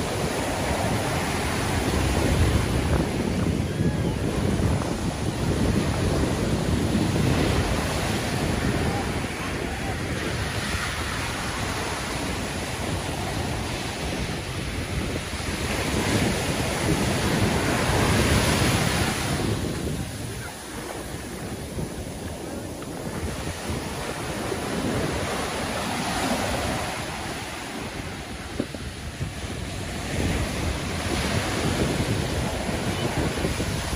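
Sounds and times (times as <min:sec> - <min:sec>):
waves breaking on sand: 0:00.0 - 0:33.9
wind buffeting microphone: 0:00.0 - 0:33.9.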